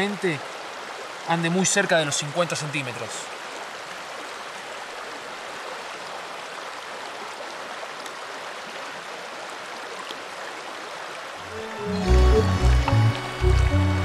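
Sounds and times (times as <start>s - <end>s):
river rushing over stones: 0.0s - 14.0s.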